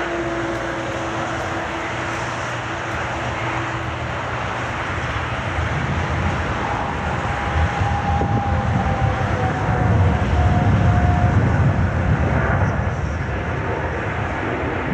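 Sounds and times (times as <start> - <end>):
heavy low rumble: 0.0 - 14.9.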